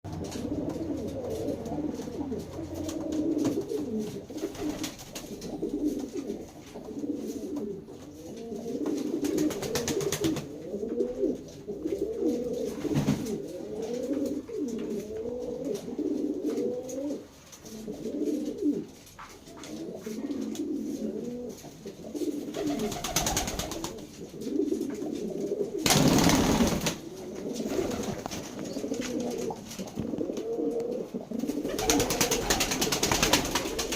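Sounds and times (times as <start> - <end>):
pigeons cooing: 0.1 - 33.9.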